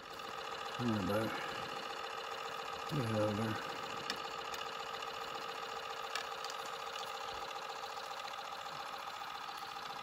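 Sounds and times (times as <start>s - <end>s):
small motor whirring: 0.0s - 10.0s.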